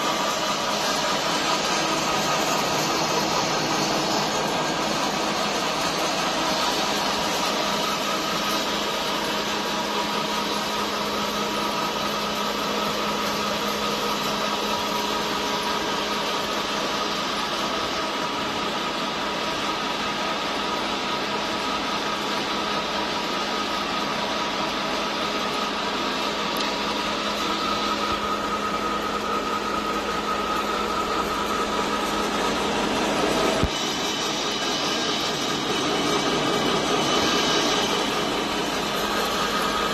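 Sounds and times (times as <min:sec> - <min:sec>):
pellet mill running: 0:00.0 - 0:39.9
steady hum: 0:00.0 - 0:39.9.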